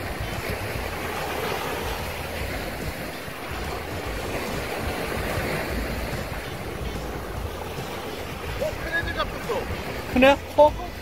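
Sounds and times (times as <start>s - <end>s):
small waves washing in shallows: 0.0s - 11.0s
wind rumble on microphone: 0.0s - 11.0s.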